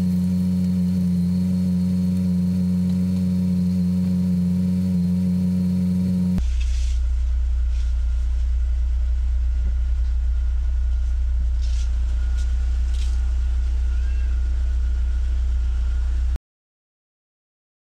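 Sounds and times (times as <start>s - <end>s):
car engine idling: 0.0s - 16.4s.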